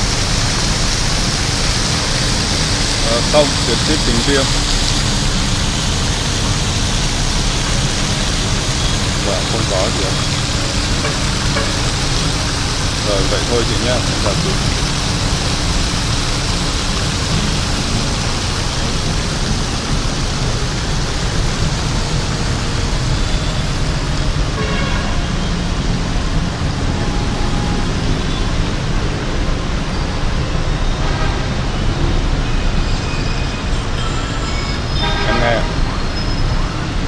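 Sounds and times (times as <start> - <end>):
motorbikes and cars passing: 0.0 - 34.0.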